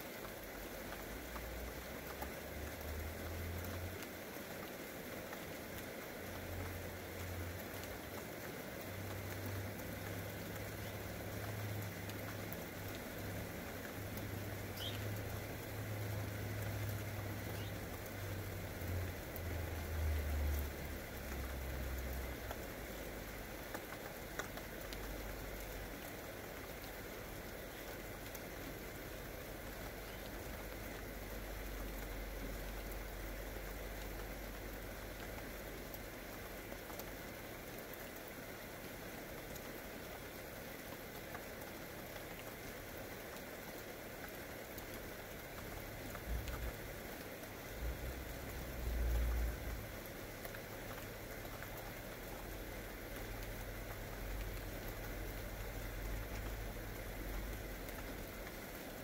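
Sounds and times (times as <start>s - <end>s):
rain falling on grass: 0.0s - 59.0s.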